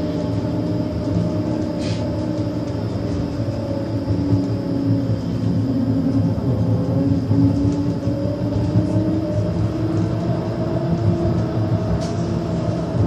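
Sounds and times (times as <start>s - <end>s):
tram rumble and motor hum: 0.0s - 13.0s.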